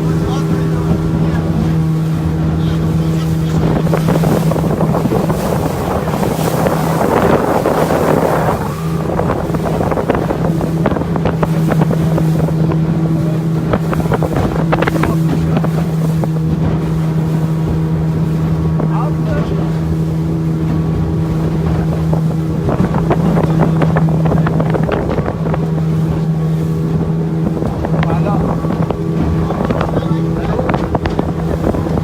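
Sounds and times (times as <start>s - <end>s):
motorboat engine: 0.0s - 32.0s
water rushing past hull: 0.0s - 32.0s
wind buffeting microphone: 0.0s - 32.0s.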